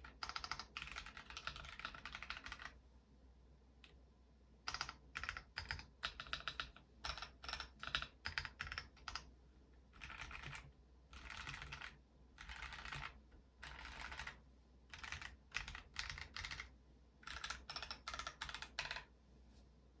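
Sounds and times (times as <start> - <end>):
mechanical keyboard typing: 0.0 - 2.8, 4.7 - 9.3, 9.9 - 19.1.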